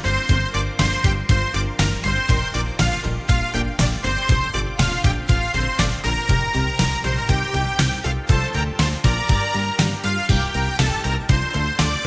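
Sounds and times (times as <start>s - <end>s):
steady low beat: 0.0s - 12.0s.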